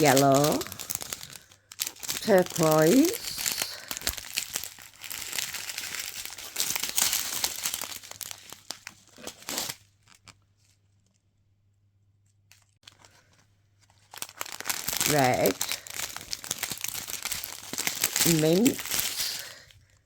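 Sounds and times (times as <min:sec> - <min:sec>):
plastic bags crinkling: 0:00.0 - 0:10.7, 0:12.8 - 0:20.0.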